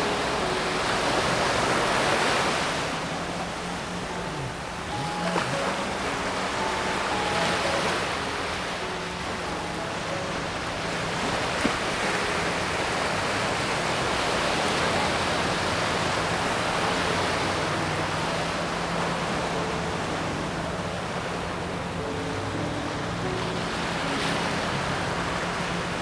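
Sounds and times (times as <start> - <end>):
faint piano music: 0.0 - 26.0
waves breaking on beach: 0.0 - 26.0.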